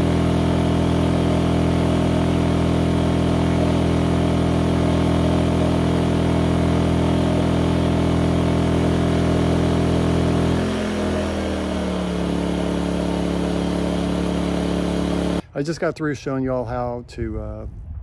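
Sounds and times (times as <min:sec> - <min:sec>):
generator engine running: 0:00.0 - 0:15.4.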